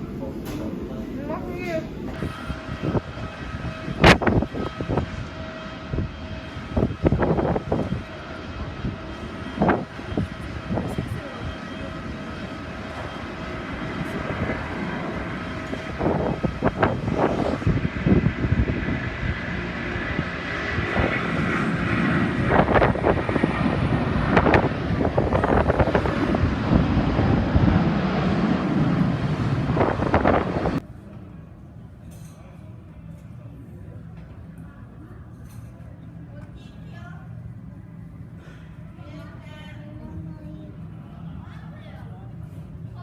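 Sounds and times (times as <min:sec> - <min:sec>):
jet airliner engines running: 0:00.0 - 0:43.0.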